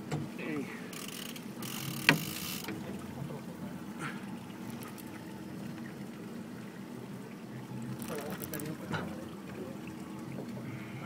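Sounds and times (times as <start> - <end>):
boat engine idling: 0.0 - 11.0
water lapping against hull: 0.0 - 11.0.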